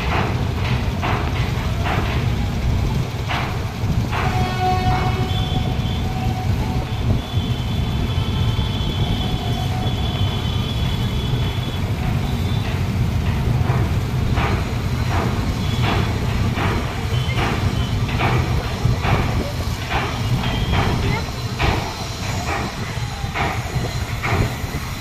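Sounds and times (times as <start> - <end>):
train rumbling across bridge: 0.0 - 25.0.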